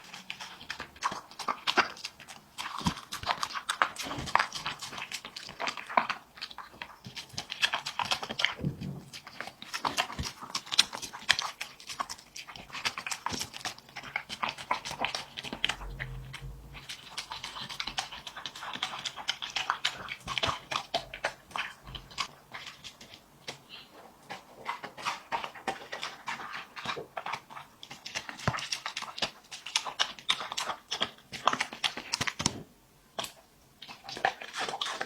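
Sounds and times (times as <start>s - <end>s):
dog chewing and licking: 0.0s - 16.6s, 17.2s - 32.6s, 33.2s - 35.0s.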